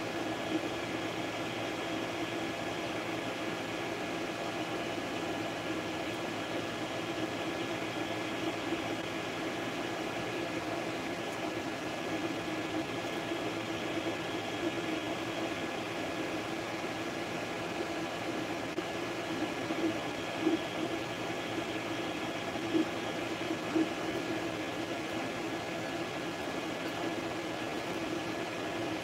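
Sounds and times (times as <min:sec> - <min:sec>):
cooling fans whirring: 0:00.0 - 0:29.0.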